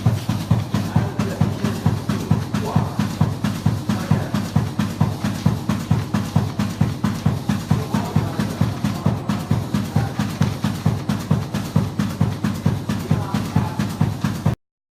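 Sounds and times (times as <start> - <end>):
pleating machine blades thumping: 0.0 - 14.6
sharp machine clicks: 0.0 - 14.6.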